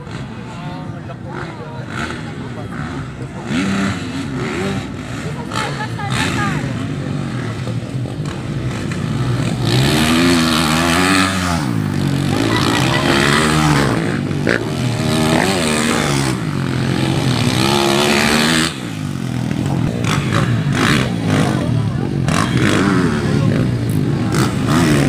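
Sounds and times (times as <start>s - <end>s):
motocross bike engines revving: 0.0s - 25.0s.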